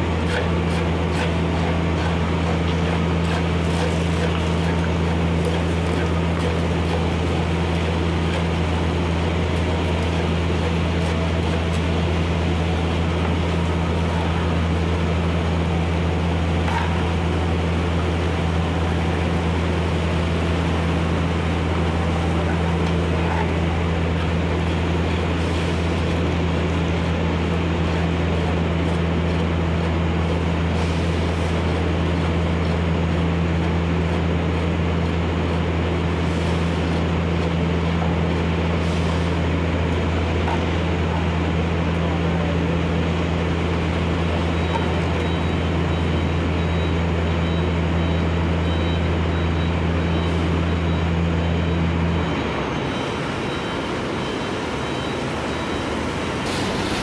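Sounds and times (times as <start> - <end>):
machine drone: 0.0 - 57.0.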